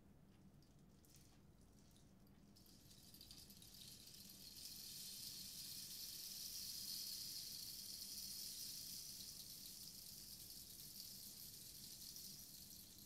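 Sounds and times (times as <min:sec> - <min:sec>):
rain stick patter: 0:00.6 - 0:13.0.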